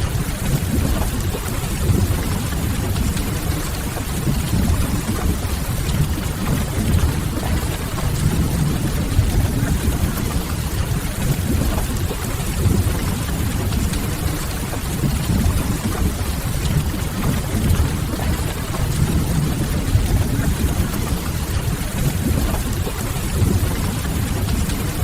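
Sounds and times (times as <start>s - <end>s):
deep constant rumble: 0.0s - 25.0s
steady rain: 0.0s - 25.0s.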